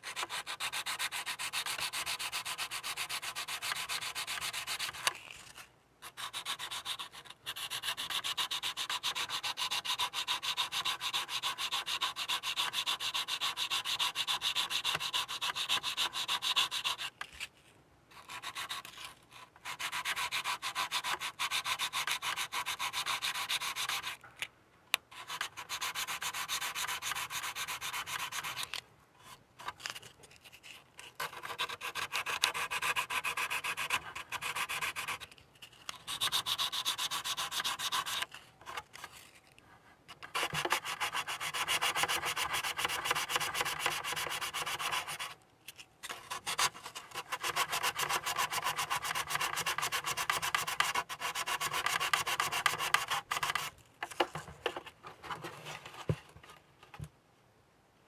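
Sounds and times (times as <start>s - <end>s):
sandpaper rubbing on plastic: 0.0s - 5.4s, 6.1s - 17.2s, 18.1s - 24.2s, 25.2s - 28.8s, 31.0s - 38.8s, 40.2s - 45.4s, 46.1s - 54.4s.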